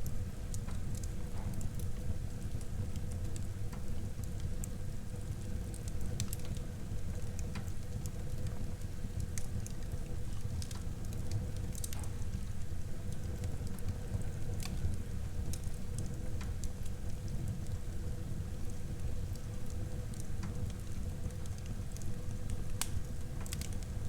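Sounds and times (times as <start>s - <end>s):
low rumble of flame: 0.0s - 24.0s
wood crackling and popping: 0.5s - 23.9s.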